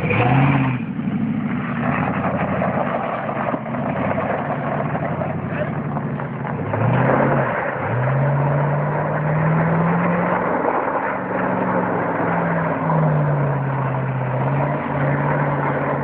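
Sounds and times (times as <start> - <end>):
rough rushing noise: 0.0 - 16.0
truck engine revving: 0.0 - 16.0.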